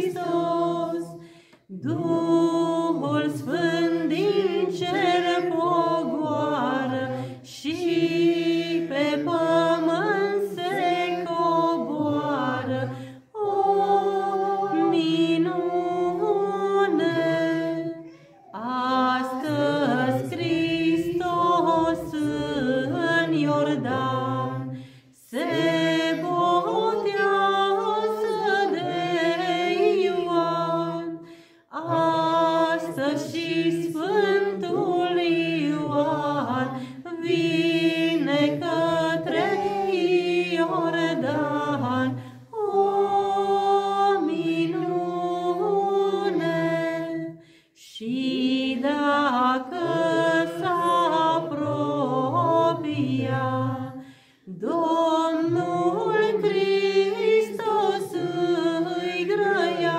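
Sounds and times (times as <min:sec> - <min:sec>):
woman singing unaccompanied: 0:01.7 - 0:24.6, 0:25.2 - 0:31.1, 0:31.7 - 0:53.9, 0:54.5 - 0:59.9.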